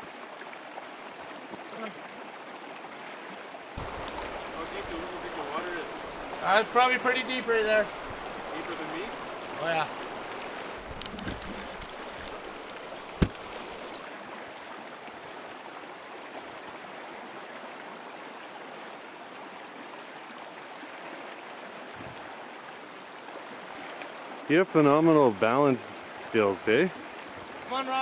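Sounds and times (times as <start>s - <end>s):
mountain creek rushing: 0.0s - 28.0s.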